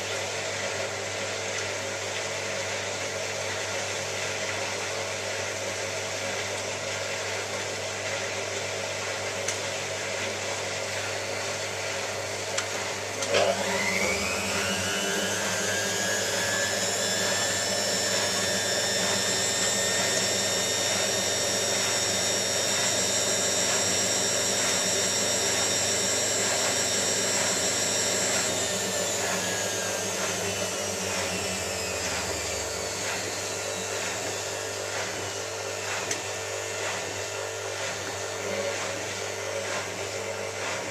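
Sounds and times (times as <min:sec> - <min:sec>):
washing machine motor whine: 0:00.0 - 0:40.9.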